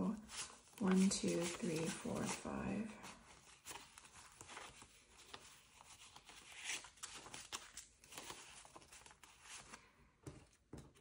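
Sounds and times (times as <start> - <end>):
paper banknotes rustling: 0.2 - 11.0.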